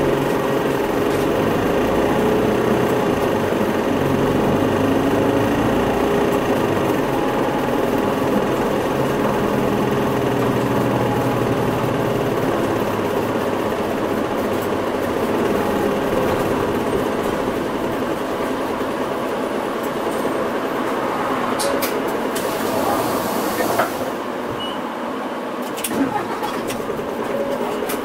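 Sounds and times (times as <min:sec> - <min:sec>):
bus diesel engine drone: 0:00.0 - 0:28.0
constant hum and rush: 0:00.0 - 0:28.0.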